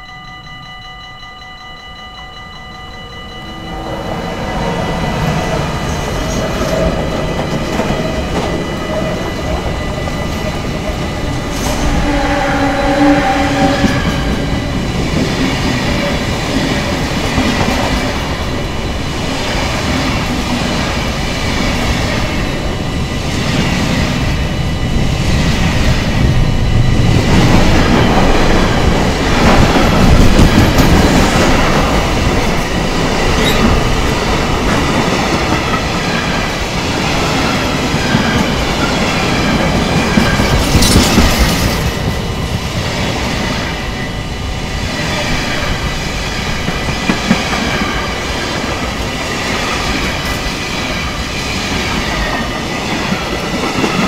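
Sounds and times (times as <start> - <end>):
train wheels rumbling on rails: 2.9 - 54.0.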